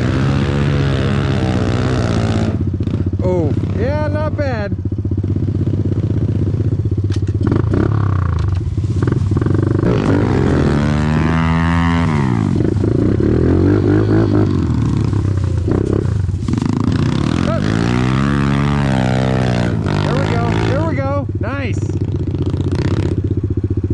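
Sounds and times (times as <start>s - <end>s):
off-road vehicle engine revving: 0.0s - 23.9s.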